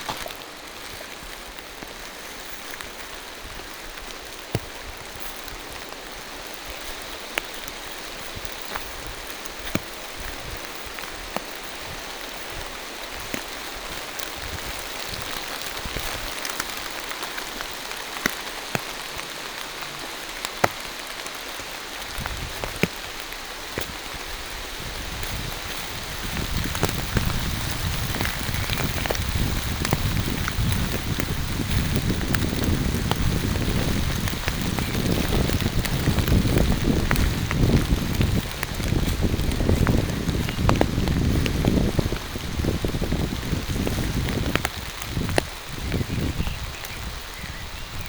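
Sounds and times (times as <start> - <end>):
rain falling through trees: 0.0 - 48.0.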